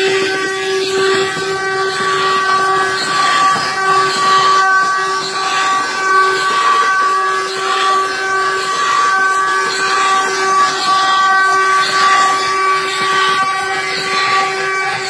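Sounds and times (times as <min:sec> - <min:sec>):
wooden axle squealing: 0:00.0 - 0:15.0.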